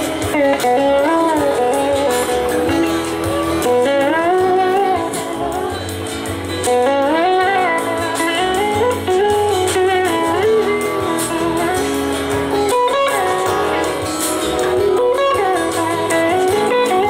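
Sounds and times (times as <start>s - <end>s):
bass guitar: 0.0s - 17.0s
drum kit: 0.0s - 17.0s
electric slide guitar lead: 0.0s - 17.0s.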